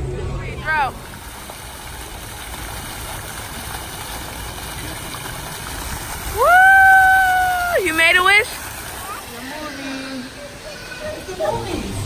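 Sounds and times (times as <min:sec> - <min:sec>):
fountain splashing into basin: 0:00.0 - 0:12.0.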